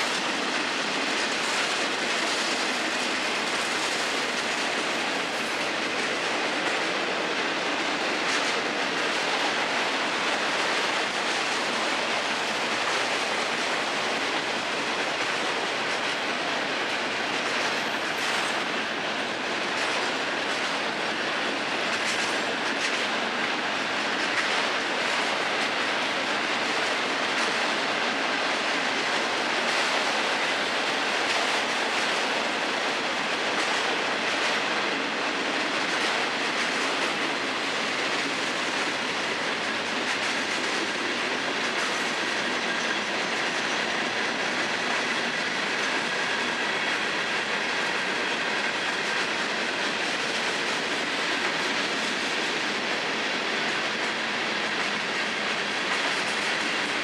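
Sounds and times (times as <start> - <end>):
freight train wheels rolling on rails: 0.0 - 57.0.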